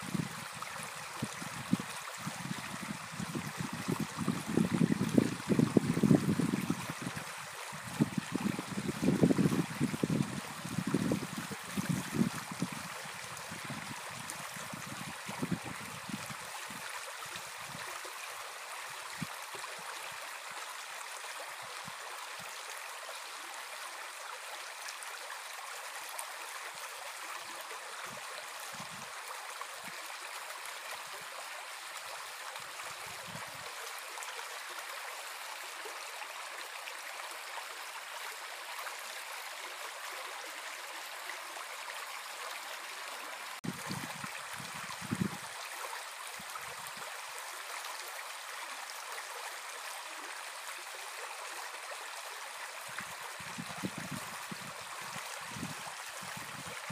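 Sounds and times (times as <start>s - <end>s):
brook babbling: 0.0s - 56.9s.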